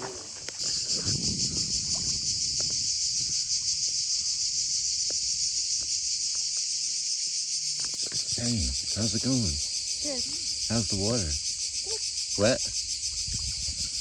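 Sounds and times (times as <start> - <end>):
cicadas calling: 0.0 - 14.0.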